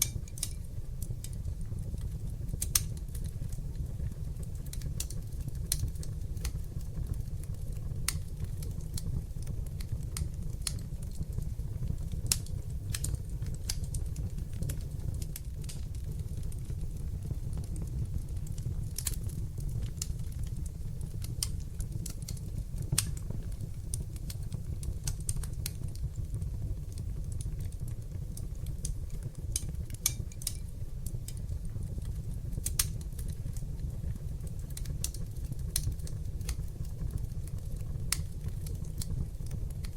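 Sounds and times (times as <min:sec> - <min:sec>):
fire crackling and popping: 0:00.0 - 0:39.9
fire flames rumbling: 0:00.0 - 0:39.9.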